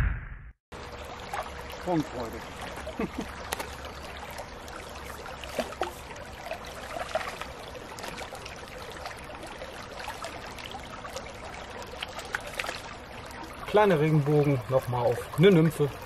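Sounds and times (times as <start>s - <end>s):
brook trickling: 0.7s - 16.0s
water splashes and knocks: 0.7s - 16.0s.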